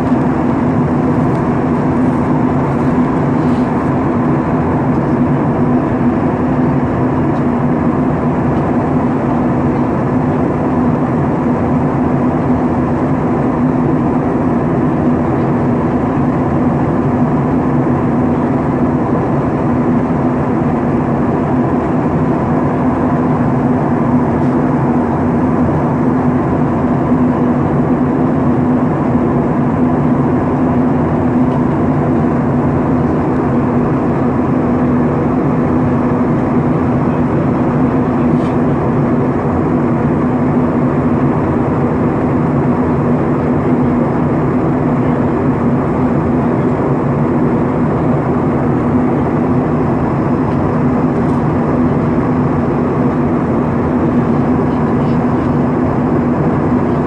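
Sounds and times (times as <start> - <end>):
airliner cabin engine rush: 0.0 - 57.0
constant low hum: 0.0 - 57.0.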